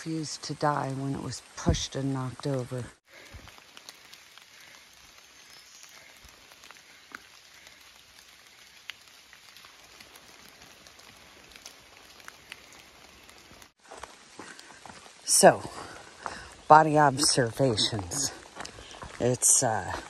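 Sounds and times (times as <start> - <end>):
light rain on foliage: 0.0 - 20.0
raindrops ticking: 0.0 - 20.0.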